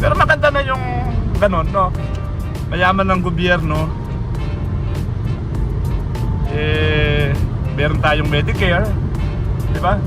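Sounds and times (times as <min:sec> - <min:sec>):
background music: 0:00.0 - 0:10.0
car road and engine rumble: 0:00.0 - 0:10.0.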